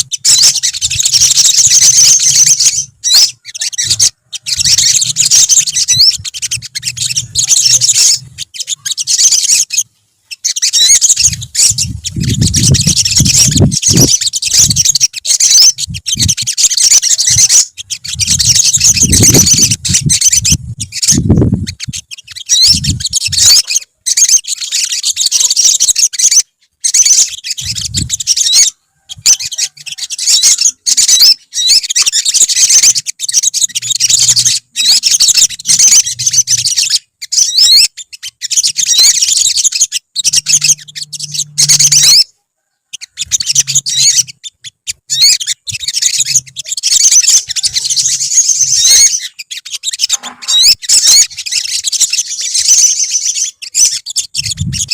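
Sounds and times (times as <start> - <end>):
sunbirds chirping and twittering: 0.0 - 54.9.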